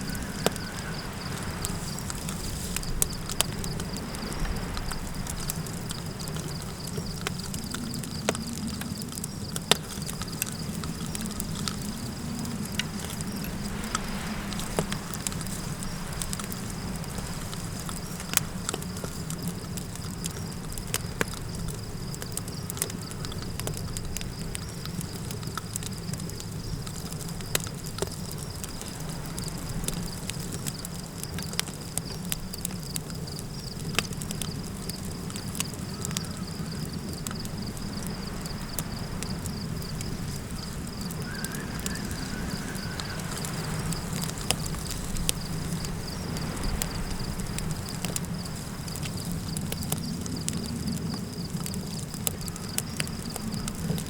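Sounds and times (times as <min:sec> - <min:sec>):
campfire crackling and popping: 0:00.0 - 0:54.0
crickets chirring: 0:00.0 - 0:54.0
low wind rumble: 0:00.0 - 0:54.0.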